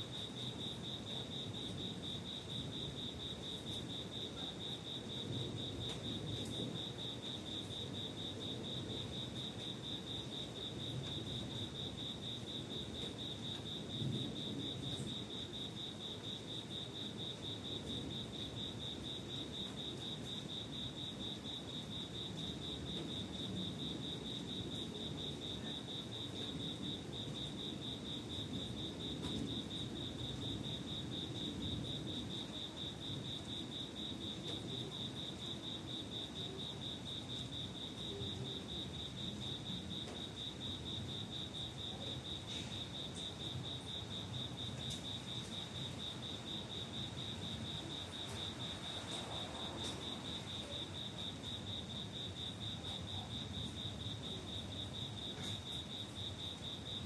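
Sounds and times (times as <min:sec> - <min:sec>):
low background noise: 0:00.0 - 0:57.0.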